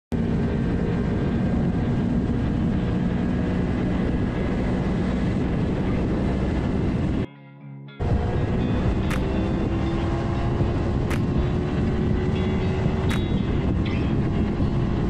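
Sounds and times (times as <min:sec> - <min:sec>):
motorcycle engine cruising: 0:00.1 - 0:07.3, 0:08.0 - 0:15.0
wind rush on microphone: 0:00.1 - 0:07.3, 0:08.0 - 0:15.0.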